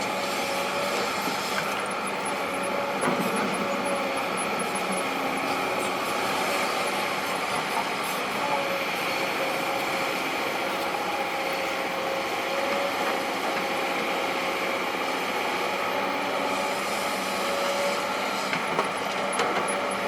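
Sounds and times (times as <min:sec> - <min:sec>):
heavy diesel machinery running: 0:00.0 - 0:20.0
steady machine whine: 0:00.0 - 0:20.0.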